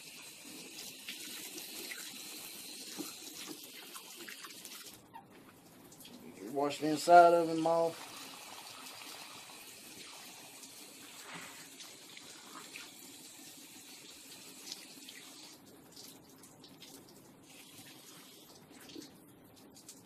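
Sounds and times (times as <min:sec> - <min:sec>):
hose water splashing: 0:00.0 - 0:20.0.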